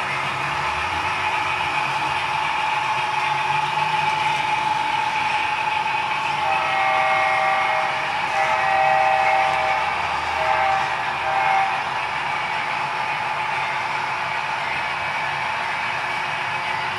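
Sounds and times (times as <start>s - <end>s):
model train rolling: 0.0s - 16.9s.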